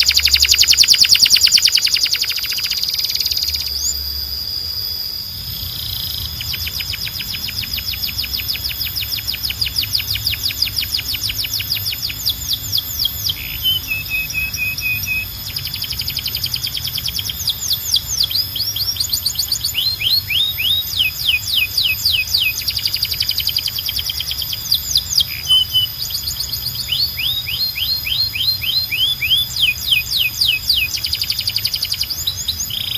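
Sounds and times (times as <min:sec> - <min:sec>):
canary singing trills: 0:00.0 - 0:32.9.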